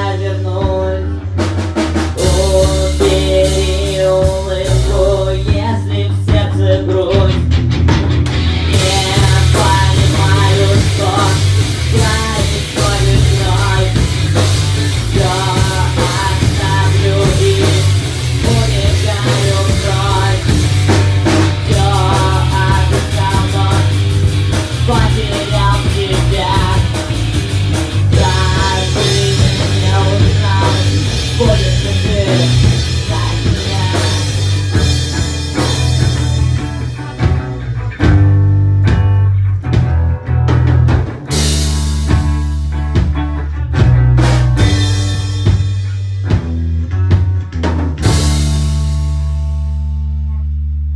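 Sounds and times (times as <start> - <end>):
rock song with singing: 0.0 - 50.4.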